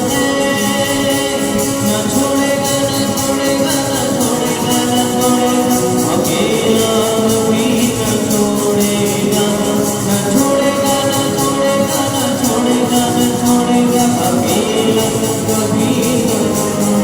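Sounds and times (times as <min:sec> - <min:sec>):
high percussion beat: 0:00.0 - 0:17.0
worship song with sustained notes: 0:00.0 - 0:17.0.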